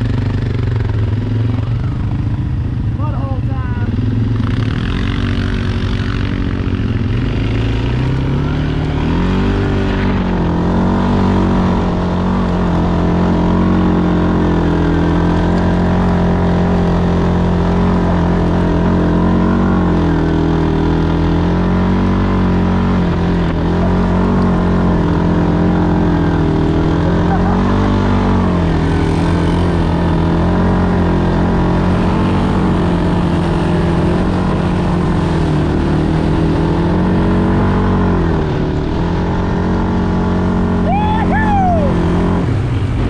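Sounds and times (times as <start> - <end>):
quad engine running: 0.0 - 43.0.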